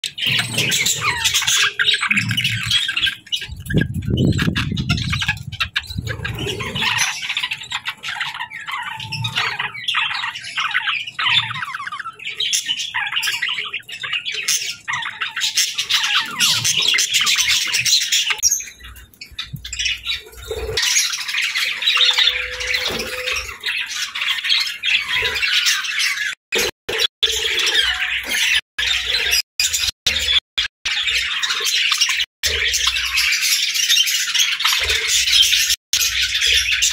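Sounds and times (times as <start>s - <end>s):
budgerigars chattering and squawking: 0.0s - 36.9s.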